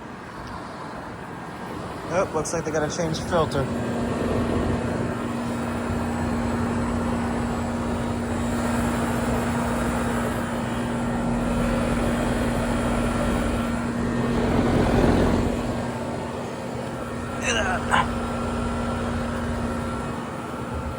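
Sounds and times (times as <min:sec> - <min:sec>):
constant low hum: 0:00.0 - 0:20.9
fan air rushing: 0:00.0 - 0:20.9.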